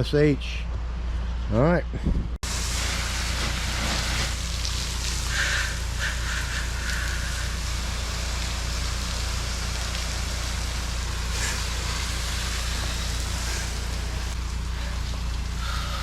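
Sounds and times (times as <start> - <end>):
pressure washer engine hum: 2.4 - 16.0
water spraying hiss: 2.4 - 16.0.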